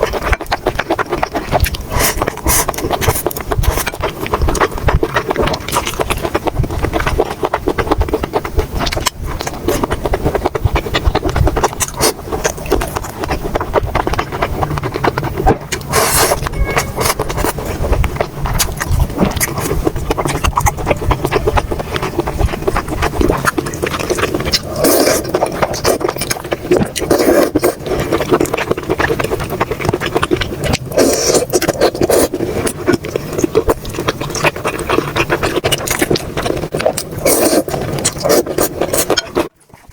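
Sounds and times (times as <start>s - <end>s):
slurp or crunch: 0.0s - 39.9s
wet chewing and mouth smacking: 0.0s - 39.9s.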